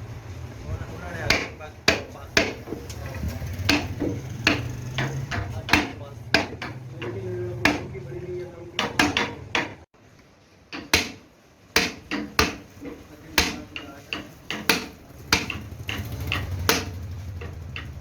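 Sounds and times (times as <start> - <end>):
hammer strikes: 1.2 - 9.9, 10.7 - 18.0.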